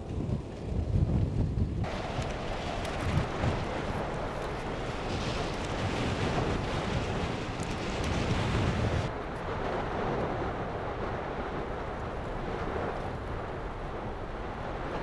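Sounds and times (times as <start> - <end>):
wind on microphone: 0.0 - 15.0
lava fissure rushing: 0.1 - 15.0.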